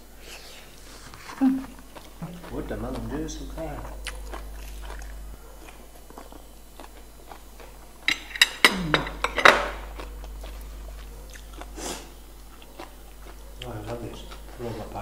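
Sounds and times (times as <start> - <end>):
crunching and chewing: 0.1 - 15.0.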